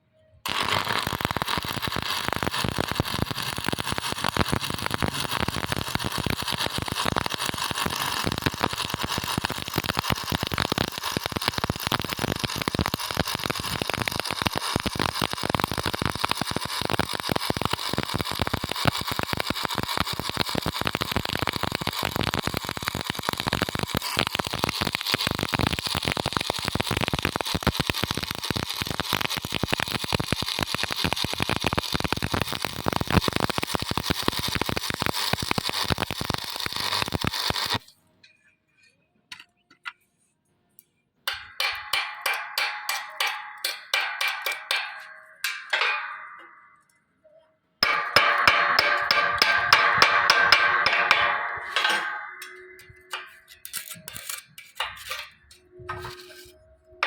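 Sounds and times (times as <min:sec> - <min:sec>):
welding arc crackling: 0:00.4 - 0:37.9, 0:41.3 - 0:46.6, 0:47.8 - 0:56.6.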